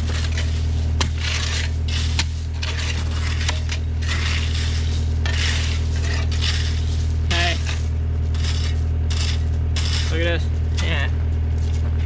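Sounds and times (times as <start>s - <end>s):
bucket scraping through stone: 0.0s - 11.0s
loose stones clattering: 0.0s - 11.0s.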